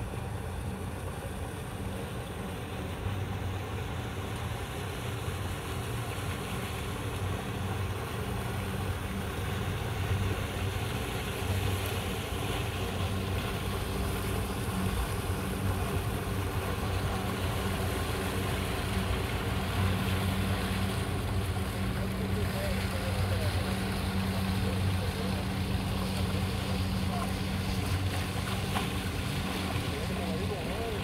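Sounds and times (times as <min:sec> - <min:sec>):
outboard motor running: 0:00.0 - 0:31.0.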